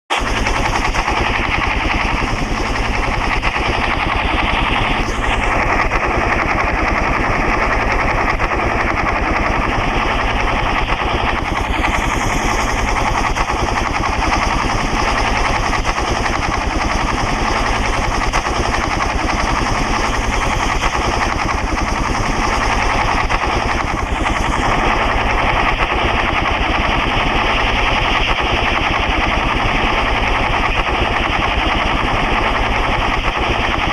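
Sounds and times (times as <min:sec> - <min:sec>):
helicopter rotor blades chopping: 0:00.1 - 0:33.9.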